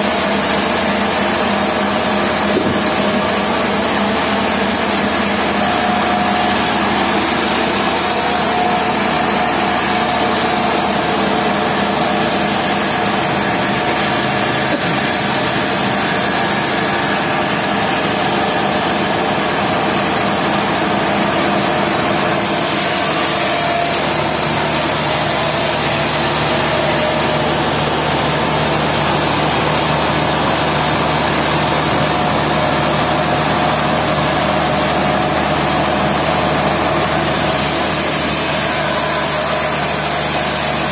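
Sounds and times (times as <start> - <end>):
sawmill engine and saw: 0.0 - 40.9.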